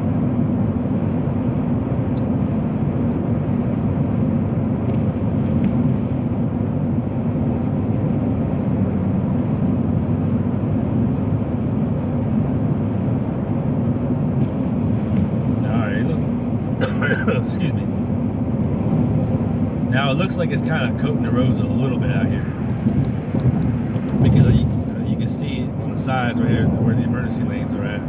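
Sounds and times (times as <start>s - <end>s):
car cabin road rumble: 0.0s - 28.0s.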